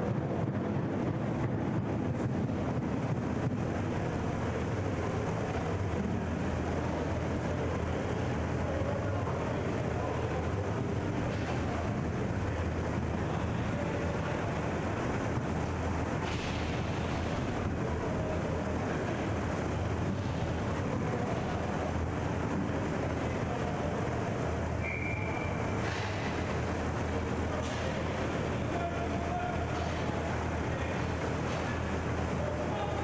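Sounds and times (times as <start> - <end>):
rumbling hum of hockey rink: 0.0 - 33.0.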